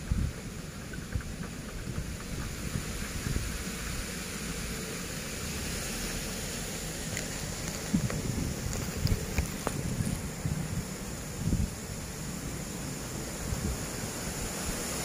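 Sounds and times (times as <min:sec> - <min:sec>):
wind buffeting microphone: 0:00.0 - 0:05.6, 0:06.8 - 0:15.0.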